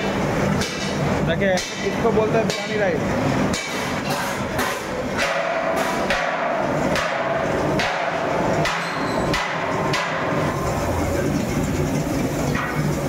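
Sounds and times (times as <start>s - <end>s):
roaster drum knocking: 0.0s - 13.0s.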